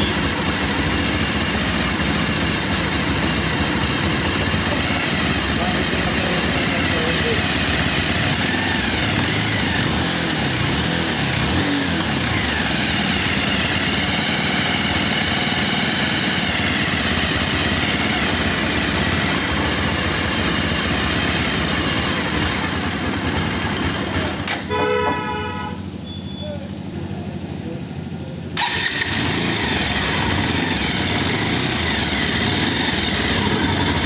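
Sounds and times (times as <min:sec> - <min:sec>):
motorcycle engine idling: 0:00.0 - 0:26.2, 0:28.2 - 0:34.0.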